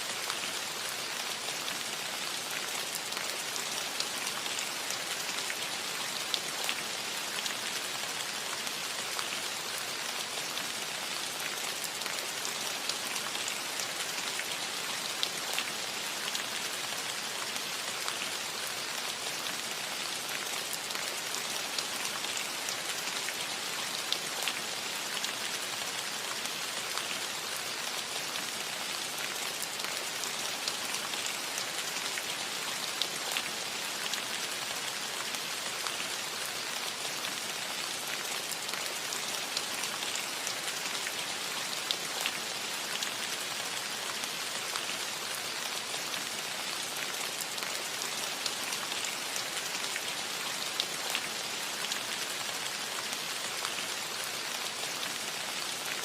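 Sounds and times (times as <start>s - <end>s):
rain on a metal roof: 0.0s - 56.0s.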